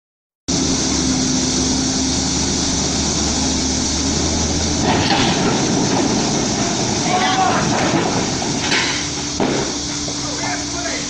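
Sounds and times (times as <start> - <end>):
heavy machinery running: 0.5 - 11.0.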